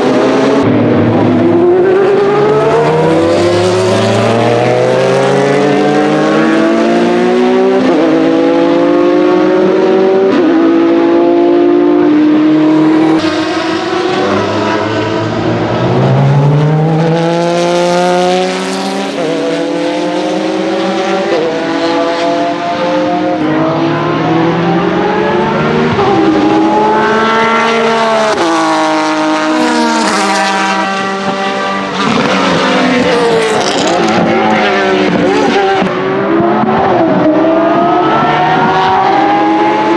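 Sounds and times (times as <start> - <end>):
race car engines at high revs: 0.0 - 39.9.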